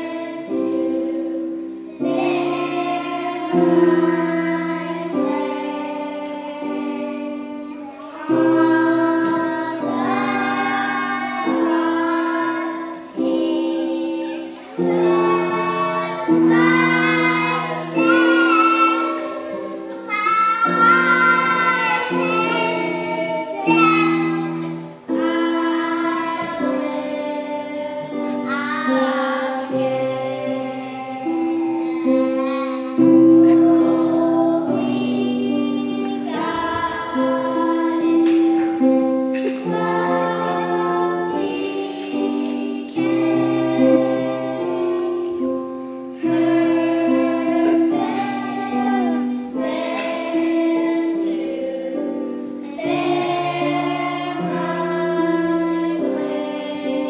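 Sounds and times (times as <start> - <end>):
children singing: 0.0 - 57.0.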